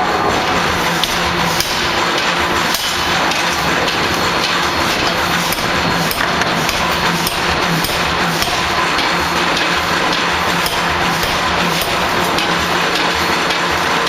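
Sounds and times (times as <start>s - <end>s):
machine running: 0.0s - 14.0s.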